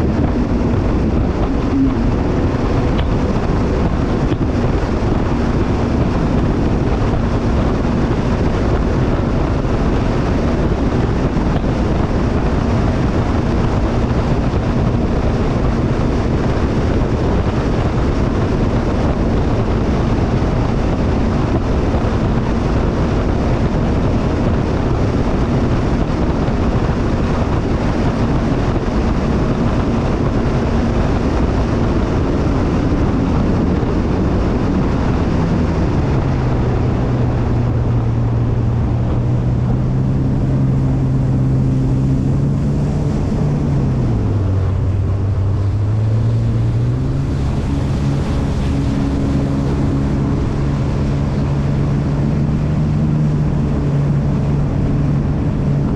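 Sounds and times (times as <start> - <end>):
jet ski engine running: 0.0 - 55.9
water rushing: 0.0 - 55.9
wind rushing: 0.0 - 55.9.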